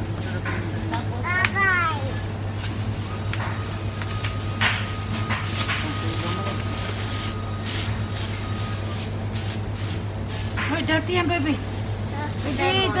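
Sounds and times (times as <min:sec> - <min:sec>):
steady low hum: 0:00.0 - 0:13.0
plastic bags rustling and crinkling: 0:02.4 - 0:13.0.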